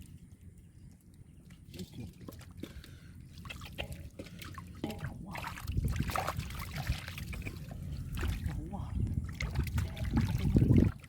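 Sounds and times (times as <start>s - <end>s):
muddy water splashing: 0.0s - 11.0s
water dripping: 0.0s - 11.0s.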